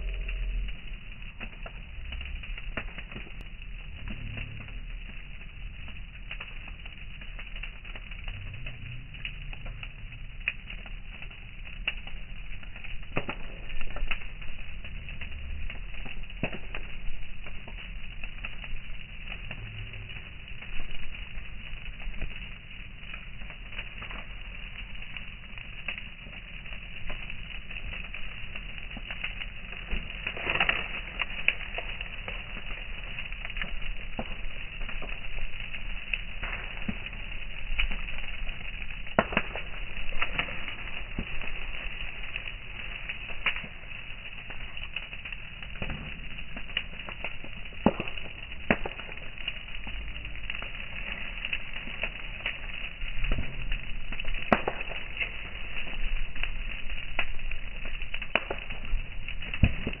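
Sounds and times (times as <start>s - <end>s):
bonfire crackling and popping: 0.0s - 60.0s
flame roar: 0.0s - 60.0s.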